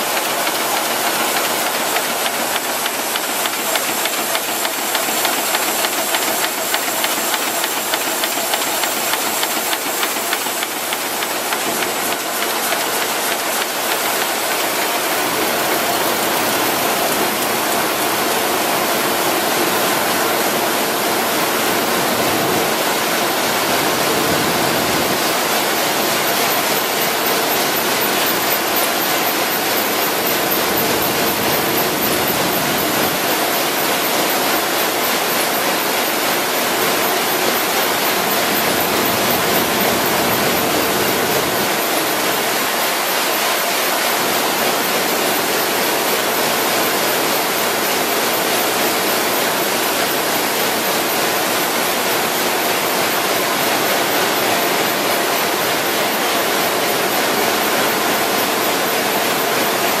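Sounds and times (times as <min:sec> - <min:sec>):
continuous hiss: 0:00.0 - 1:00.0
printing press clattering: 0:00.0 - 1:00.0.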